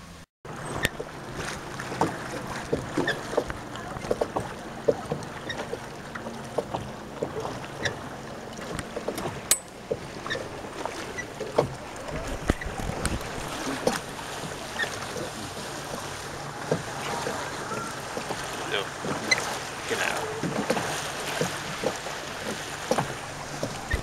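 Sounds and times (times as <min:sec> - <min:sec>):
water lapping against boat hull: 0:00.0 - 0:24.0
small splashes and knocks: 0:00.5 - 0:24.0.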